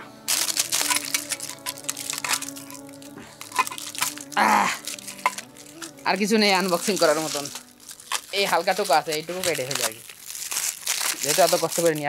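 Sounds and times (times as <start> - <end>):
plastic wrapping crinkling: 0.0 - 12.0
soft background music: 0.0 - 12.0.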